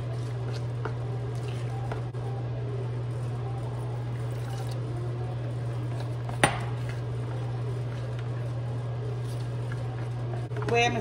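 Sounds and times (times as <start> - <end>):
spoon mixing dough: 0.0 - 11.0
steady low hum: 0.0 - 11.0.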